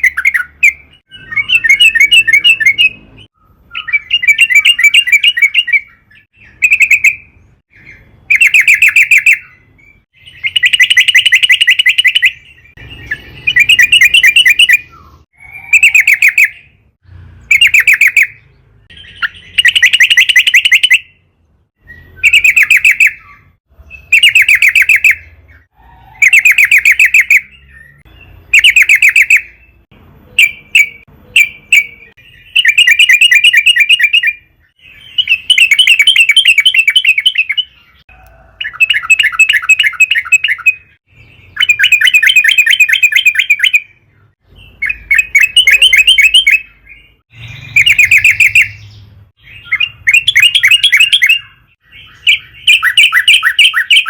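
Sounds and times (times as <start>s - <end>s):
bird singing bubbling phrases: 0.0s - 54.0s.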